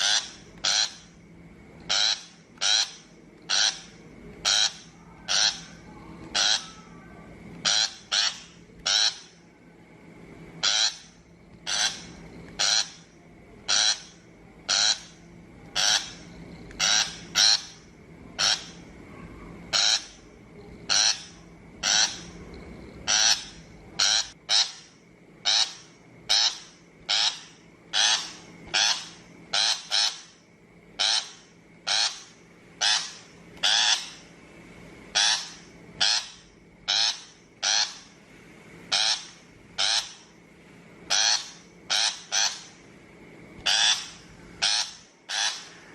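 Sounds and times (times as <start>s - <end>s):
shrike harsh calls: 0.0s - 1.2s, 1.9s - 9.4s, 10.6s - 30.4s, 31.0s - 34.3s, 35.1s - 38.2s, 38.9s - 40.4s, 41.1s - 42.8s, 43.6s - 45.9s.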